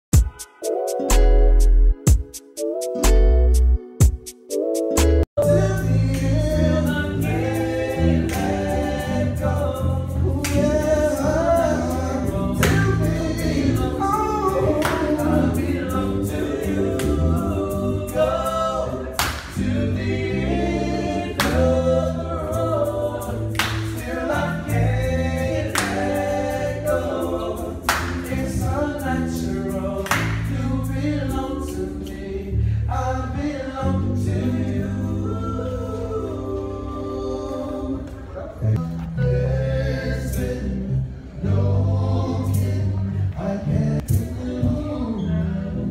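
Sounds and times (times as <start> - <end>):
group singing gospel harmonies: 5.4 - 45.9.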